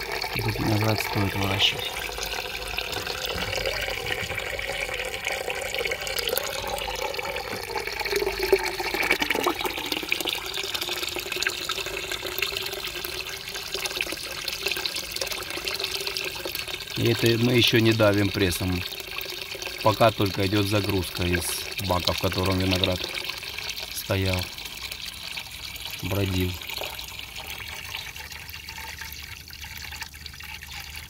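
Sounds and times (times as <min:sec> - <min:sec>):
wine pouring and splashing: 0:00.0 - 0:31.0.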